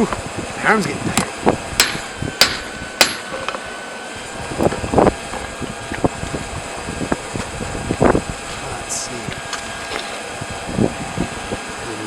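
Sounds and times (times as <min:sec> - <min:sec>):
fan whirring: 0:00.0 - 0:12.0.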